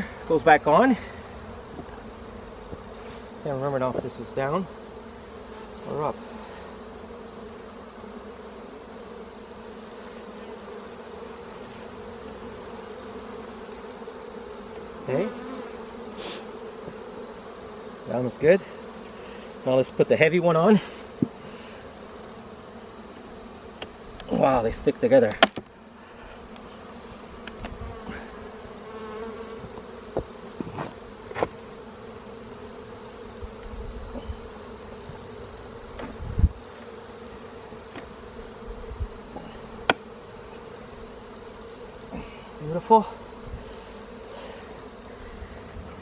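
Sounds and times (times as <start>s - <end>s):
honey bees buzzing: 0.0s - 46.0s.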